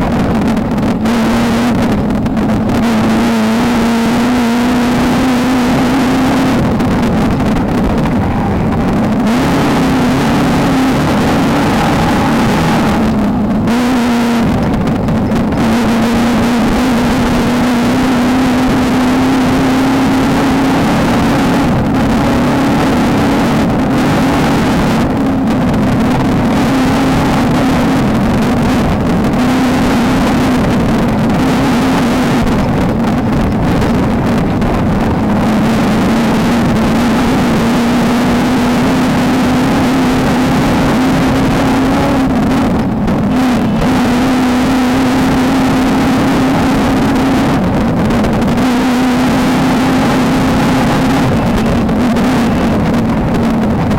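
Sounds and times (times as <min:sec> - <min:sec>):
race car engine running hard: 0:00.0 - 0:53.9
rush of wind: 0:00.0 - 0:53.9.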